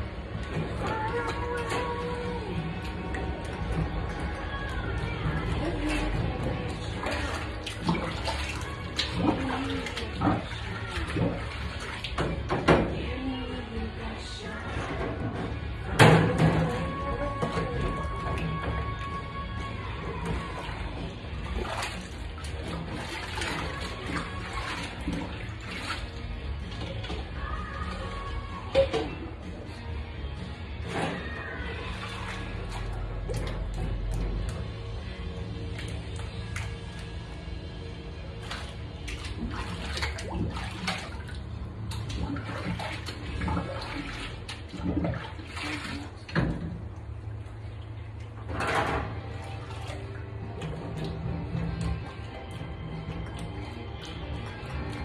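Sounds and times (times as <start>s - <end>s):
water splashing in a sink: 0.0s - 55.0s.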